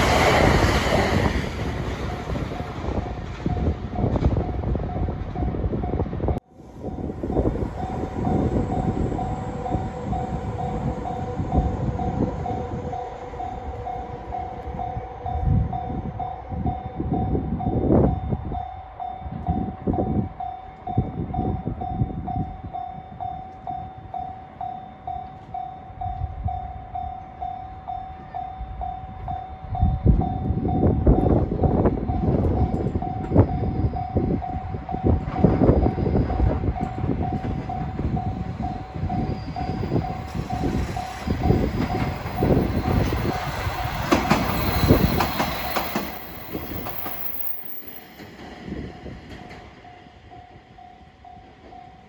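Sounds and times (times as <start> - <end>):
railcar wheel clatter: 0.0 - 52.0
train rumble: 0.0 - 52.0.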